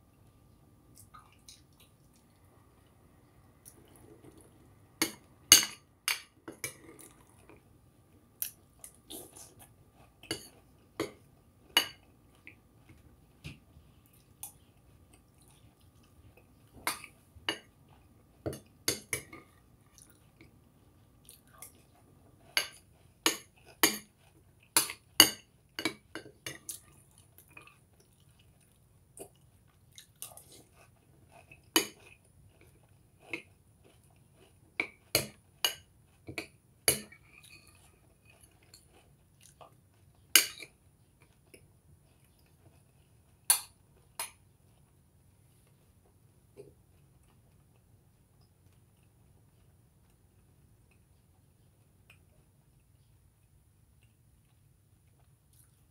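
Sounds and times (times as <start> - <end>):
chewing: 0.9 - 5.4, 6.2 - 55.9.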